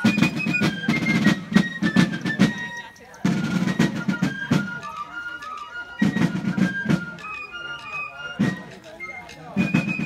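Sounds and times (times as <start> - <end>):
field drum strokes and rolls: 0.0 - 10.0
shrill fifes playing a march: 0.0 - 10.0.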